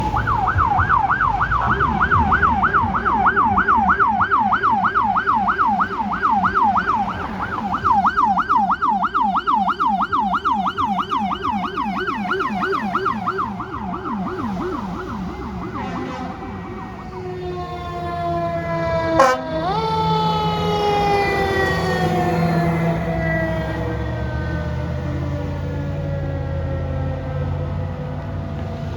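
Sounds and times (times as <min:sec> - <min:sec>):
high-pitched siren yelp: 0:00.0 - 0:25.3
lower siren yelp: 0:00.0 - 0:28.9.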